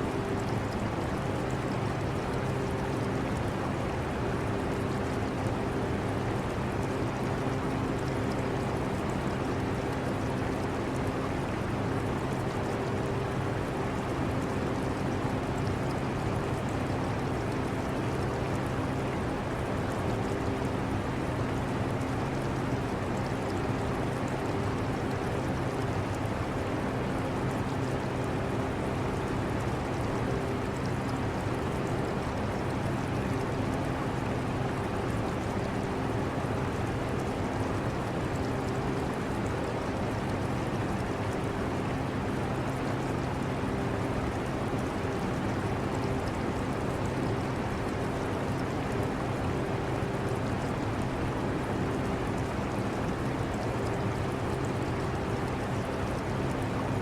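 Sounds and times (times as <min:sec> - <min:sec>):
trickling aquarium water: 0:00.0 - 0:57.0.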